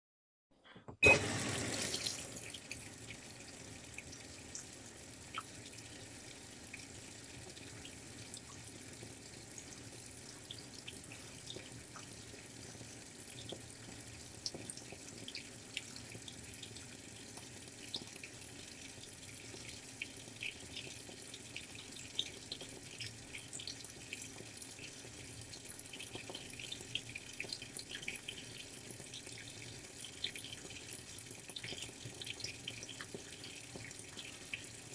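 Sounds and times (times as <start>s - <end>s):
water running into washing machine: 1.0s - 34.9s
small drips and ticks: 2.0s - 34.9s.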